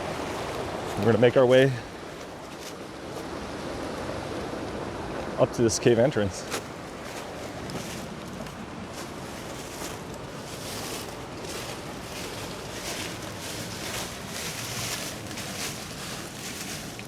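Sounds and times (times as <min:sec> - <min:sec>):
creek and waterfalls rushing: 0:00.0 - 0:17.0.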